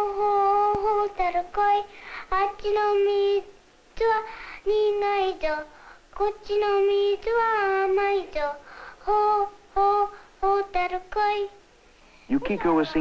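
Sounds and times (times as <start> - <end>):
girl singing: 0.0 - 11.7, 12.3 - 13.0.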